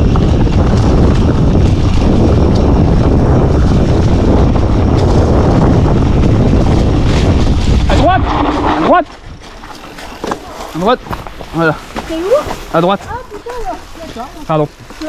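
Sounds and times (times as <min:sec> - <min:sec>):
bike rattling over rocks: 0:00.0 - 0:15.0
wind buffeting microphone: 0:00.0 - 0:15.0.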